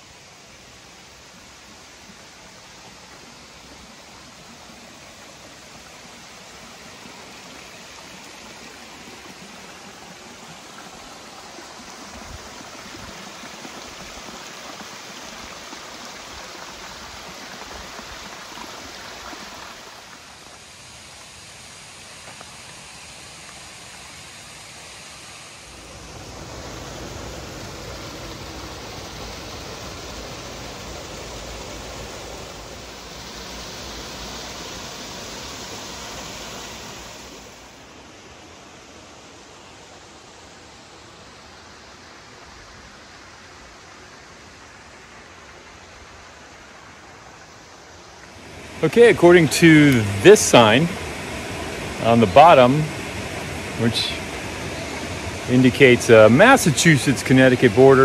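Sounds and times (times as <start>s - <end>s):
stream rushing over boulders: 0.0s - 58.0s.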